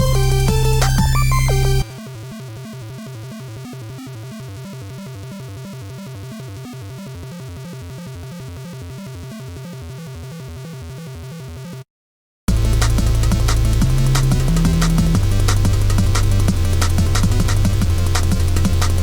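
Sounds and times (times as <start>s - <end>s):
music with repeating pulse: 0.0s - 11.6s, 12.5s - 19.0s.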